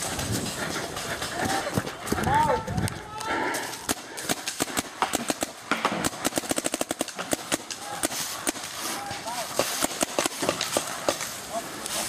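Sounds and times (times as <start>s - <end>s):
paintball markers firing: 0.0s - 11.4s.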